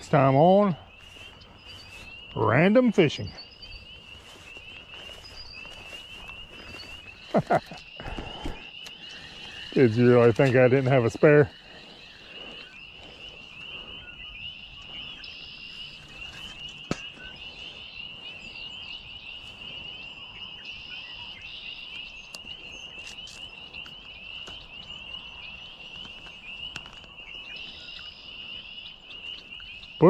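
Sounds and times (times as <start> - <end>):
frogs trilling: 0.0 - 30.0.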